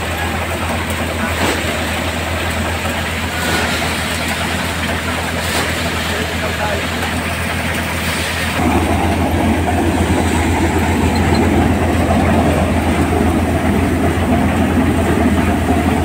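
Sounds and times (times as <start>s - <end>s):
paddy thresher running: 0.0s - 16.0s.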